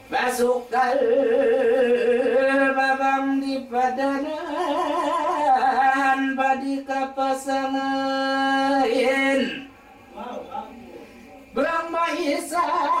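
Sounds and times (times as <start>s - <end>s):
person singing unaccompanied: 0.0s - 9.8s, 11.6s - 13.0s.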